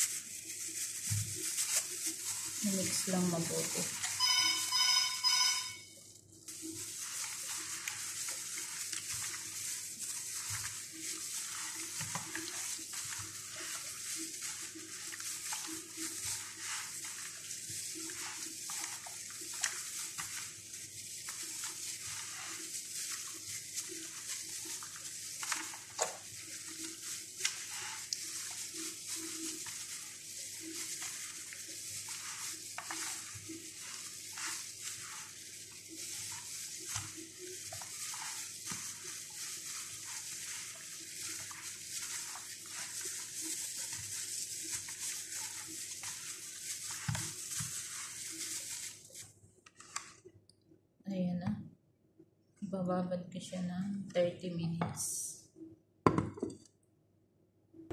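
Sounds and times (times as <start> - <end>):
meat slapping in marinade: 0.0 - 4.4, 6.2 - 50.2
squelching of hand-mixed marinade: 0.0 - 50.3.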